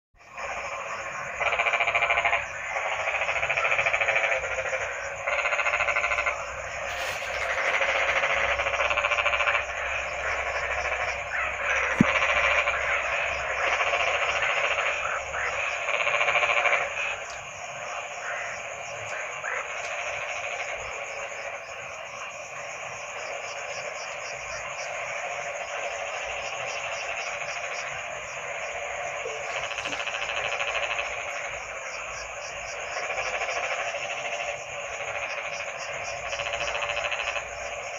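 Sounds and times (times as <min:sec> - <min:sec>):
frogs croaking: 0:00.2 - 0:37.9.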